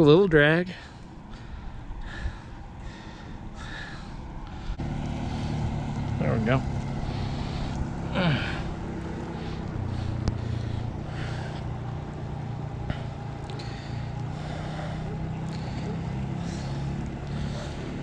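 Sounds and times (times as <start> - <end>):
motor humming: 1.3 - 18.0.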